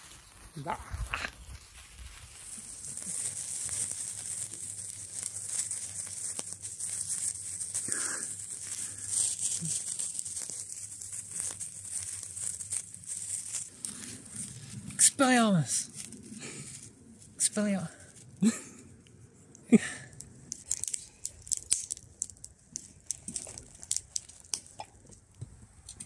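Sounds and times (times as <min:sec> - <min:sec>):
sparklers fizzing and crackling: 0:00.0 - 0:18.8, 0:19.5 - 0:26.0.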